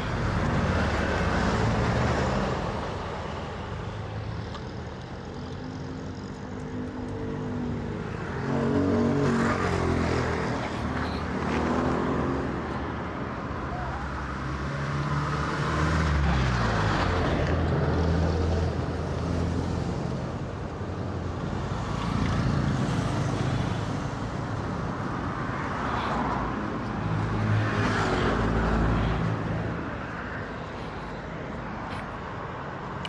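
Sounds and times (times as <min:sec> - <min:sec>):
vehicles passing by: 0:00.0 - 0:33.0.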